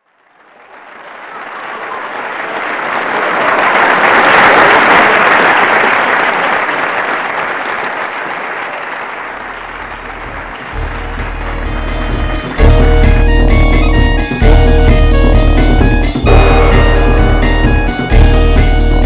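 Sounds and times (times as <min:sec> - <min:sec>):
audience applause: 0:00.0 - 0:12.9, 0:16.2 - 0:19.0.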